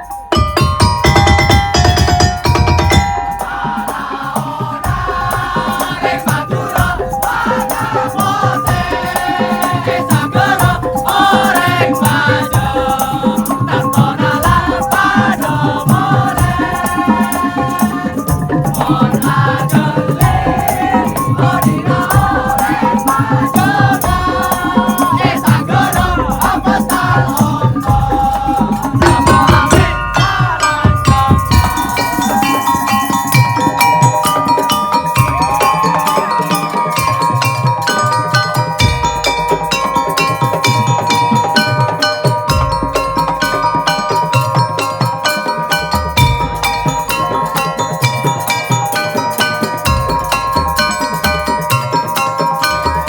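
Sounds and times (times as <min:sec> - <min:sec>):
fast percussion with rattling strokes: 0:00.0 - 0:53.0
wavering bending melody: 0:00.0 - 0:53.0.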